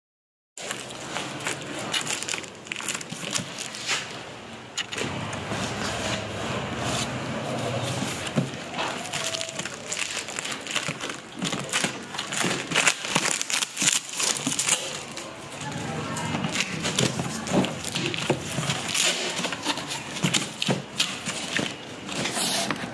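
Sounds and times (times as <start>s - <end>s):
packing tape crackling: 0.6s - 5.1s, 8.0s - 22.9s.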